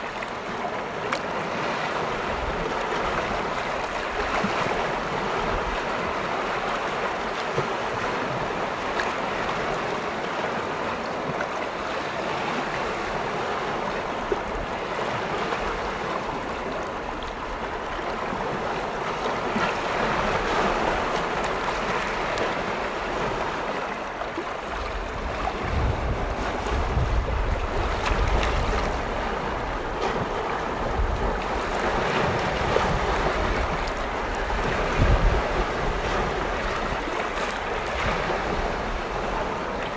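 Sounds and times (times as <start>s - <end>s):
waves washing against shore: 0.0s - 39.9s
wind rumbling on microphone: 1.3s - 39.9s.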